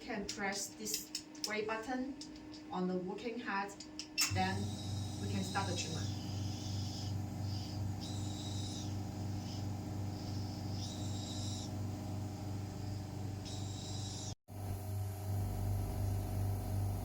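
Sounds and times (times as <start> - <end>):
pulsing electrical hum: 0.0 - 17.0.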